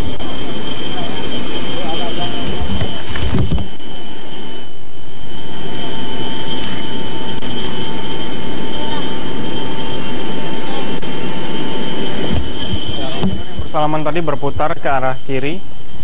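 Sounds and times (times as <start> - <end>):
high turbine whine: 0.0 - 16.0
jet turbine rushing: 0.0 - 16.0.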